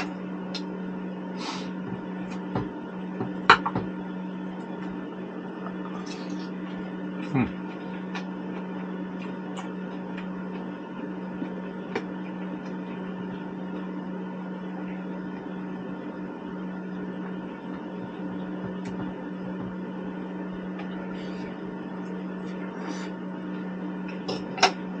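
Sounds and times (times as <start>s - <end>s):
mechanical hum: 0.0s - 25.0s.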